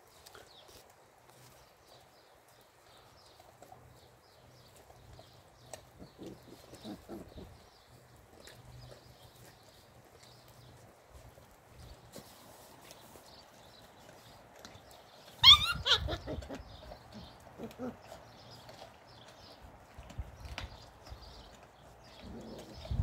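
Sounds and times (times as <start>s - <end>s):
puppies chewing meat: 0.0s - 23.0s.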